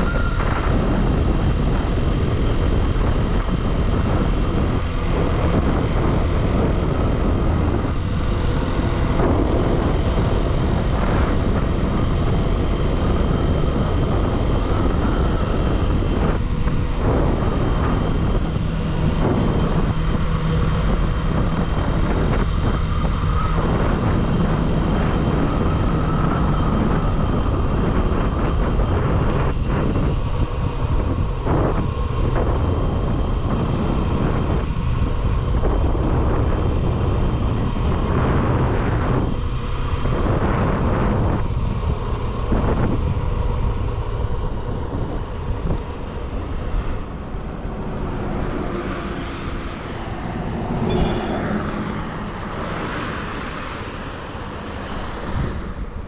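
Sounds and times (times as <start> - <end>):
motorcycle engine: 0.0 - 56.0
wind rush of riding: 0.0 - 56.0.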